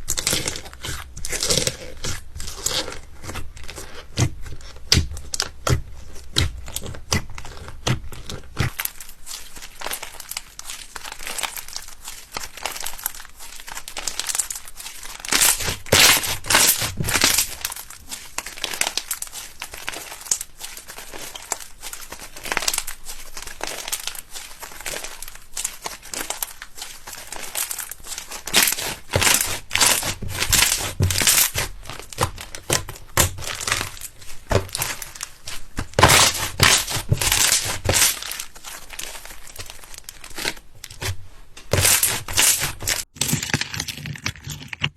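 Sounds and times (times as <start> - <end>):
slime crackling and popping: 0.0 - 44.9.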